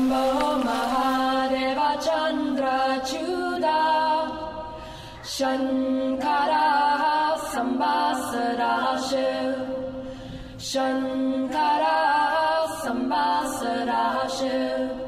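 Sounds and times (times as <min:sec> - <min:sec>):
voices singing a chant: 0:00.0 - 0:15.0.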